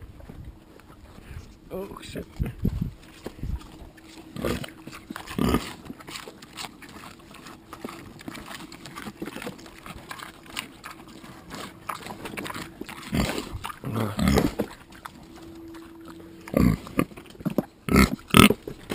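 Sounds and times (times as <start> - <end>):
pig chewing watermelon: 0.0 - 18.9.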